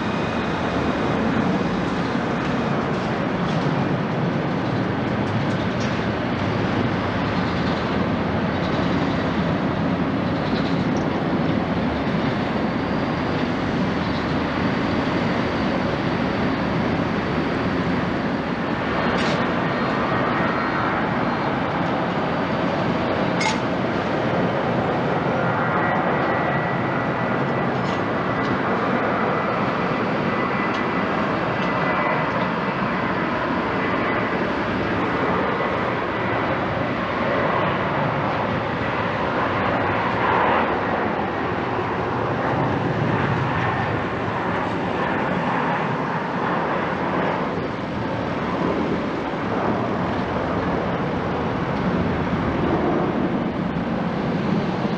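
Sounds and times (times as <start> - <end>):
airliner jet engines roaring: 0.0 - 54.9.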